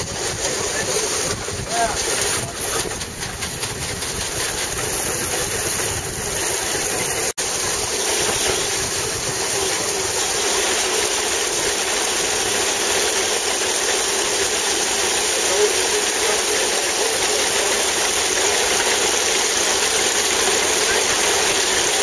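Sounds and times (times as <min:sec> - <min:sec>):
threshing machine running: 0:00.0 - 0:22.0.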